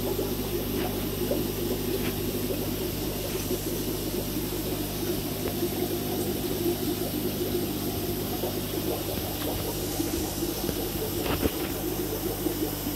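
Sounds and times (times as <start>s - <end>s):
filter pump motor hum: 0.0s - 12.9s
water churning: 0.0s - 12.9s.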